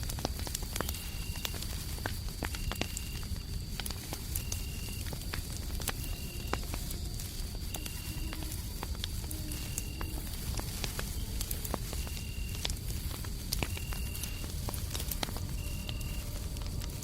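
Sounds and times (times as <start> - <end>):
crickets chirping: 0.0 - 17.0
fireplace crackling and popping: 0.0 - 17.0
high cricket trill: 0.0 - 17.0
low white noise rumble: 0.0 - 17.0.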